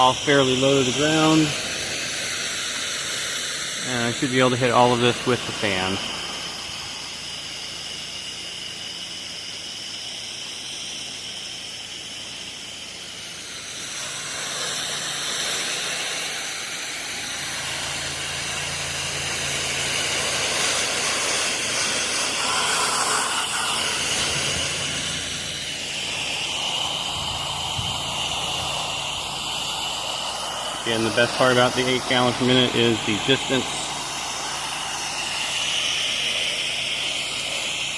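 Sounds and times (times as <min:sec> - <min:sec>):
low engine hum: 0:00.0 - 0:10.0, 0:12.6 - 0:37.6
pressure washer spray hiss: 0:00.0 - 0:37.9.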